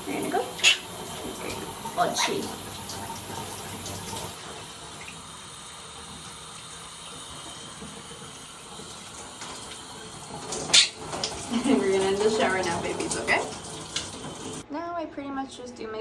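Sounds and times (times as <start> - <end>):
shower water spraying: 0.0 - 14.6.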